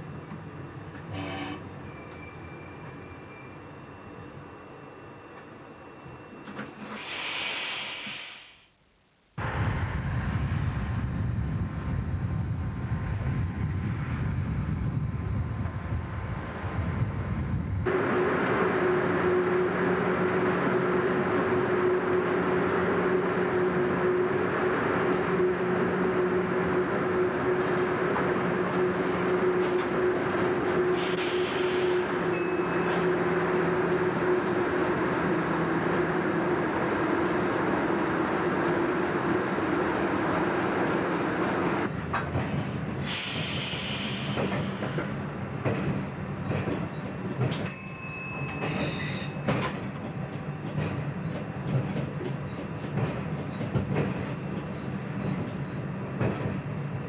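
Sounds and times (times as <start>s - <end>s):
moving train rumble: 9.4s - 57.0s.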